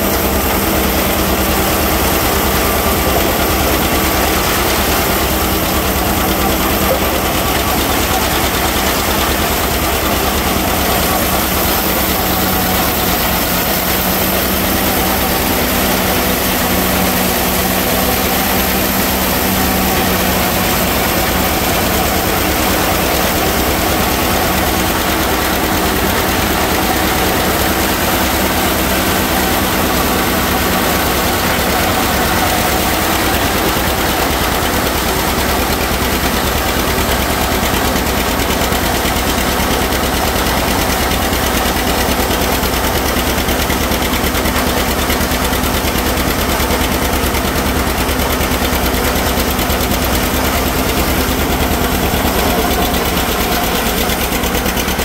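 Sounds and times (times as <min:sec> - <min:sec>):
tractor engine and chopper din: 0:00.0 - 0:55.0.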